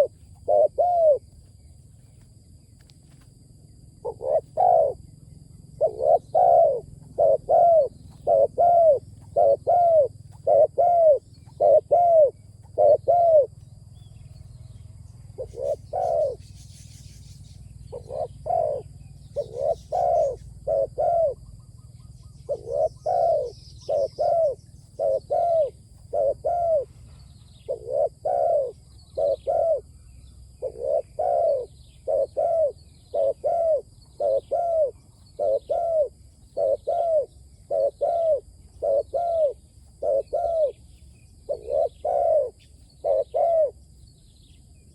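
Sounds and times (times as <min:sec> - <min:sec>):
dove cooing: 0:00.0 - 0:01.4, 0:03.9 - 0:43.8
faint high bird chirps: 0:00.0 - 0:44.9.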